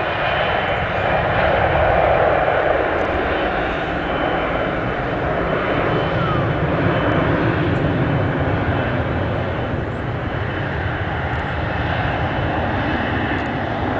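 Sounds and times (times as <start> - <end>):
jet engines at take-off: 0.0 - 13.9.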